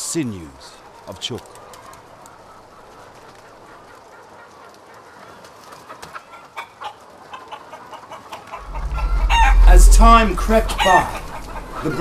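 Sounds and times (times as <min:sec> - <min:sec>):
hens clucking: 0:01.2 - 0:12.0.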